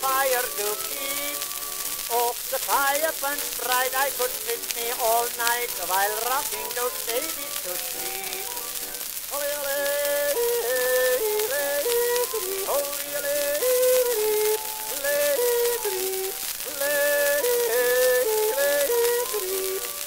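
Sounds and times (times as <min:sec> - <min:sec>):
man yodeling: 0:00.0 - 0:08.5, 0:09.3 - 0:20.0
record hiss and crackle: 0:00.0 - 0:20.0.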